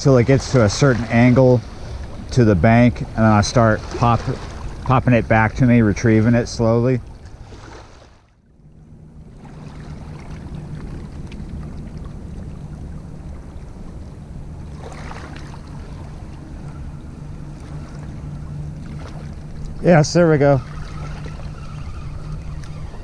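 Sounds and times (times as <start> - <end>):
low engine drone: 0.0 - 23.0.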